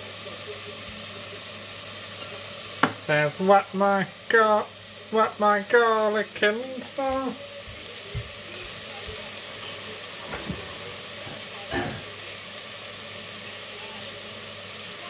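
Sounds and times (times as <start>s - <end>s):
garlic sizzling in a pan: 0.0s - 15.0s.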